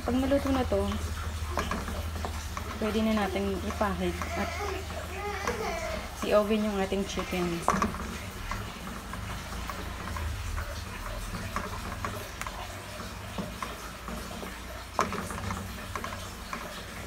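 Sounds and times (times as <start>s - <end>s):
wooden spoon scraping a pan: 0.0s - 17.0s.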